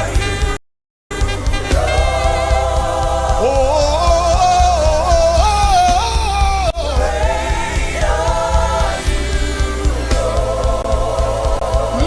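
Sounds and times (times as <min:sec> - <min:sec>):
gospel band playing: 0:00.0 - 0:12.0
person singing: 0:01.2 - 0:12.0.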